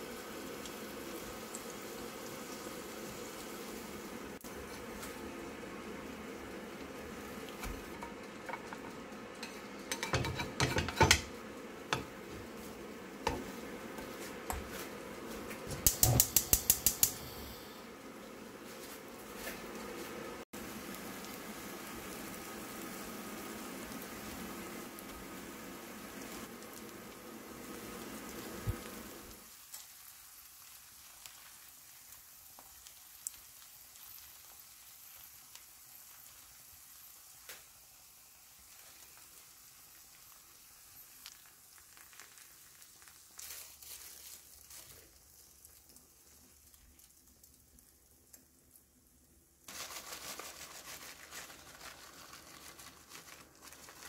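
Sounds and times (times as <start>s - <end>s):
pancake sizzling in a frying pan: 0.0s - 54.0s.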